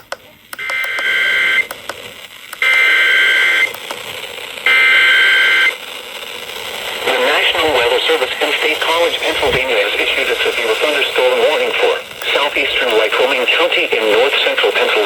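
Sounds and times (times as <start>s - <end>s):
radio background hiss: 0.0s - 15.0s
bursts of data tones: 0.6s - 1.9s, 2.5s - 15.0s.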